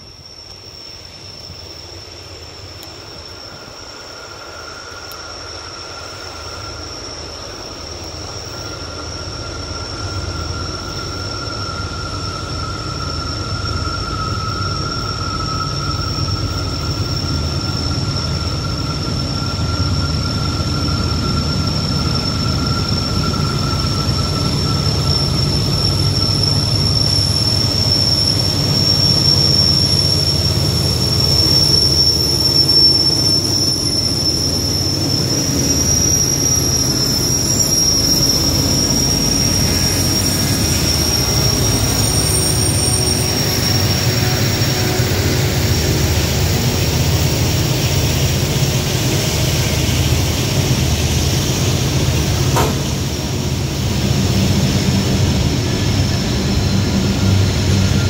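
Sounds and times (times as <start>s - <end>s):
diesel locomotive engine rumble: 0.0s - 58.0s
high-pitched wheel squeal: 2.9s - 58.0s.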